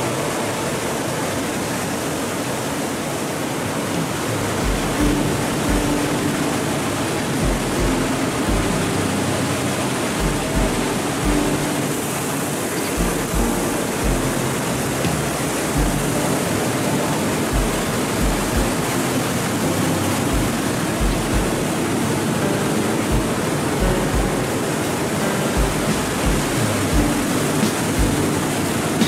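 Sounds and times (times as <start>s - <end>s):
low thuds of waves: 4.0s - 22.2s, 23.1s - 29.0s.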